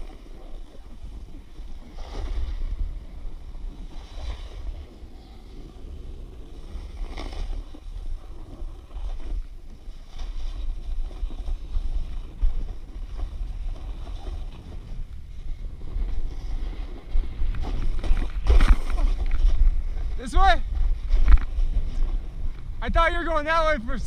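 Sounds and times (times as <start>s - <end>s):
snowboard scraping snow: 0.0s - 24.0s
wind buffeting microphone: 0.0s - 24.0s.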